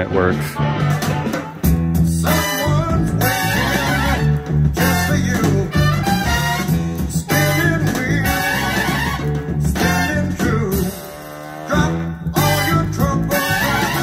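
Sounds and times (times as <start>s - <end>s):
bass guitar: 0.0s - 14.0s
guitar: 0.0s - 14.0s
person singing: 2.1s - 14.0s.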